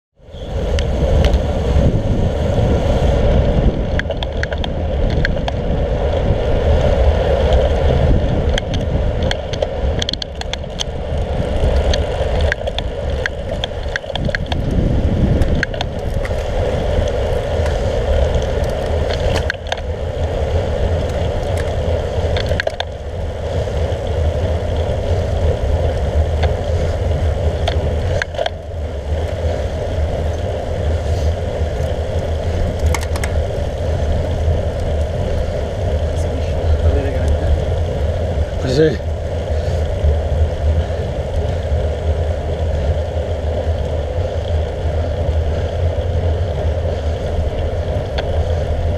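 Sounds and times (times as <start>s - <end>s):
road noise: 0.1s - 48.9s
clicks and rattles from road: 0.2s - 48.9s
wind buffeting: 0.2s - 48.9s.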